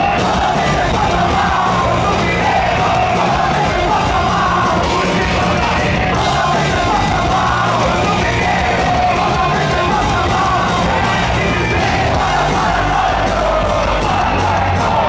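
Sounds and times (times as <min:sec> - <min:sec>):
person yelling lead vocal: 0:00.0 - 0:15.0
punk band playing live: 0:00.0 - 0:15.0.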